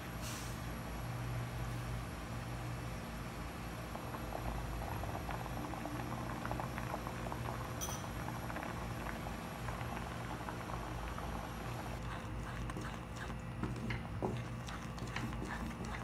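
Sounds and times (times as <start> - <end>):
liquid bubbling in a wok: 1.3 - 16.0.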